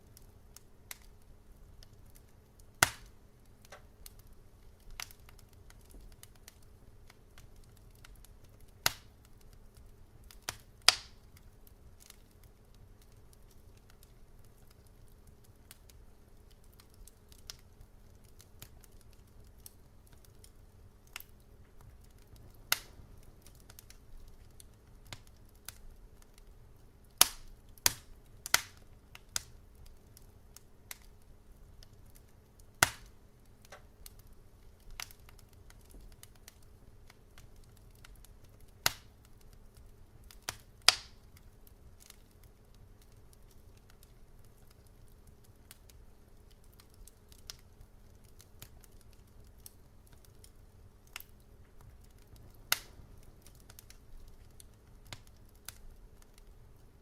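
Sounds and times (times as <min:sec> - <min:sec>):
faint low hum: 0:00.0 - 0:57.0
wood fire crackling: 0:00.0 - 0:57.0.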